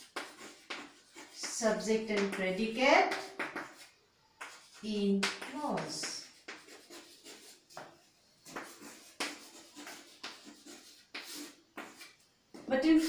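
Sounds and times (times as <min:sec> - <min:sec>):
chalk writing on chalkboard: 0:00.0 - 0:12.7.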